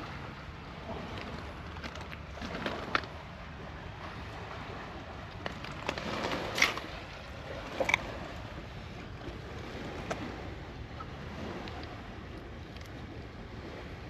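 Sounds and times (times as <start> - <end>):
surf on a pebble shore: 0.0 - 14.0
wind: 0.0 - 14.0.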